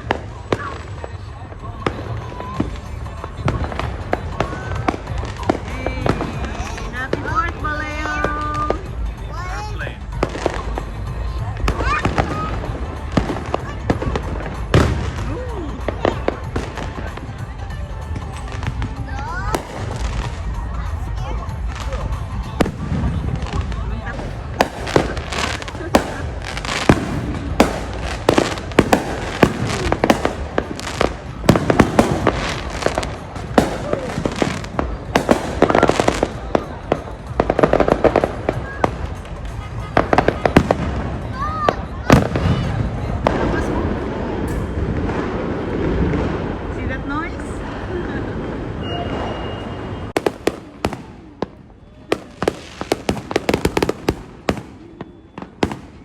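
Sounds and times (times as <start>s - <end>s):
fireworks bangs and pops: 0.0s - 56.0s.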